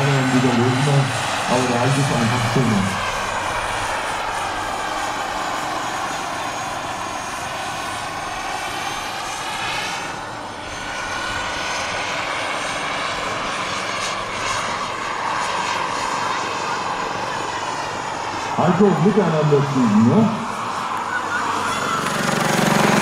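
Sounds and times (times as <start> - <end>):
model helicopters whining: 0.0 - 23.0.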